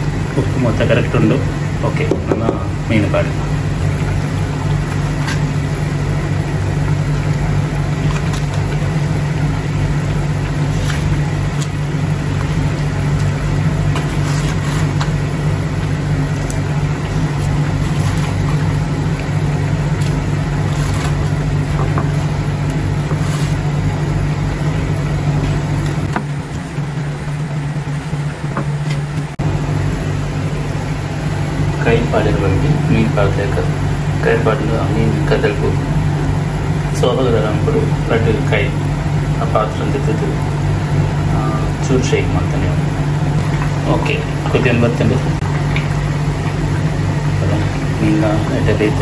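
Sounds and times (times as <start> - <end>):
low mechanical hum: 0.0 - 49.0.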